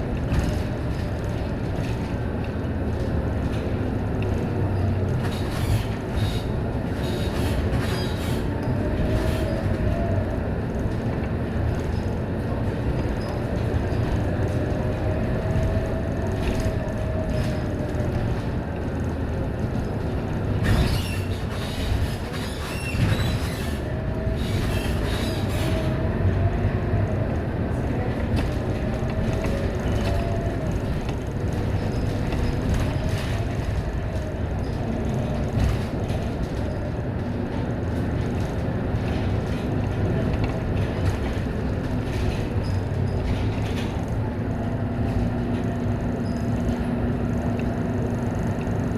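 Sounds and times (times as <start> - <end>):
bus engine rumble: 0.0 - 48.9.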